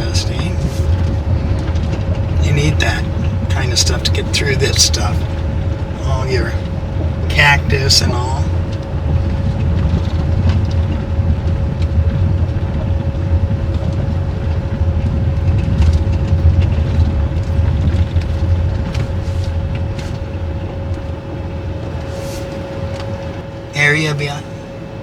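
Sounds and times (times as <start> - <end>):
road and engine rumble: 0.0 - 25.0
thin steady hum: 0.0 - 25.0.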